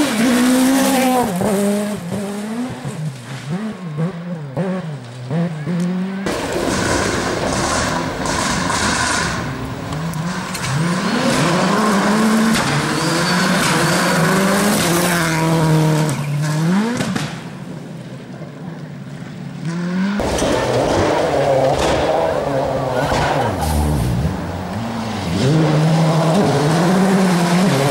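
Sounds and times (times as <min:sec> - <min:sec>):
rally car engine at full throttle: 0:00.0 - 0:27.9.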